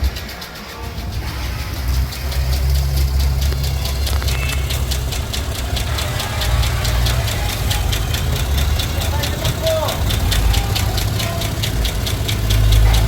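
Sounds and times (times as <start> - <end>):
engine idling: 0.0 - 13.0
fast even engine ticking: 0.0 - 13.0.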